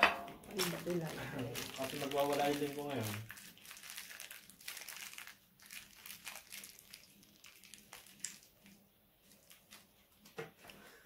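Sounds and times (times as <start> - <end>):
plastic packaging crinkling: 0.5 - 10.2.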